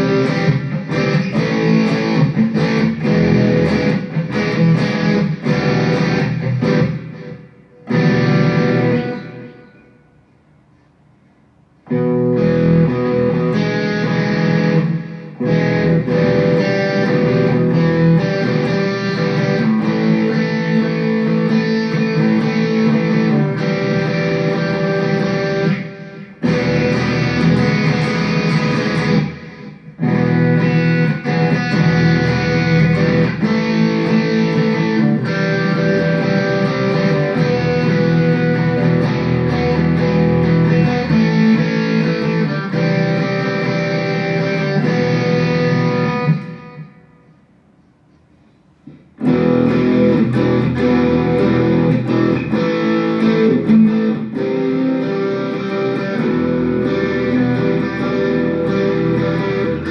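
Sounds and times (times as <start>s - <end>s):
electric guitar strumming chords: 0.0s - 10.2s, 11.8s - 47.5s, 48.8s - 59.9s.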